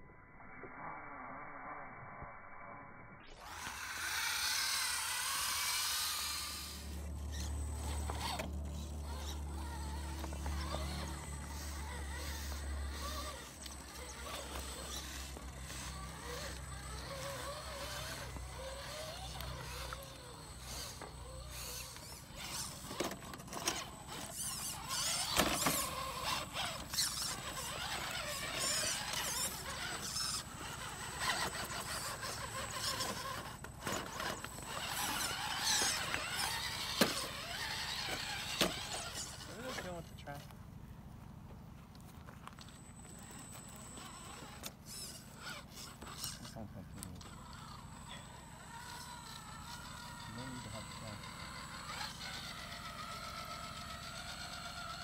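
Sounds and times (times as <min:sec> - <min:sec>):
electric motor and gear whine: 0:00.3 - 0:55.0
tires scraping over rocks: 0:03.4 - 0:55.0.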